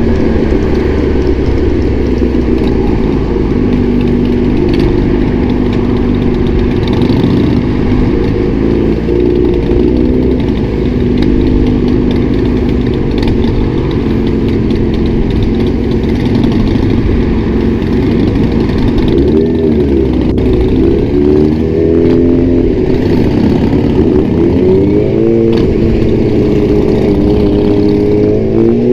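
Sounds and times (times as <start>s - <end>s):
motorcycle engine at highway speed: 0.0s - 28.9s
wind noise: 0.0s - 28.9s.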